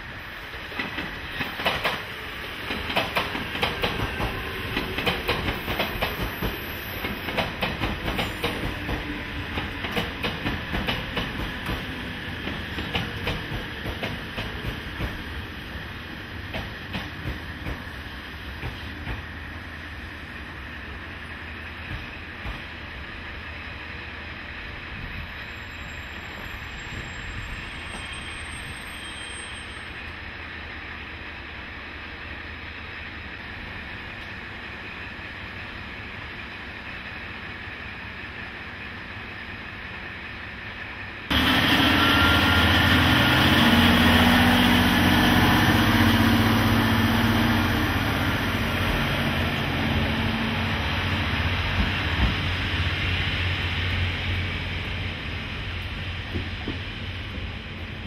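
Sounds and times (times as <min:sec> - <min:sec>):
diesel railcar engine running: 0:00.0 - 0:58.0.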